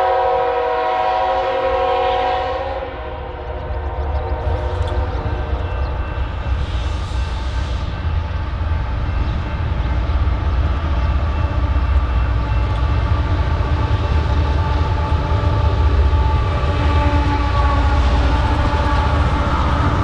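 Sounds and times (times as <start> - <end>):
freight train low rumble: 0.0 - 20.0.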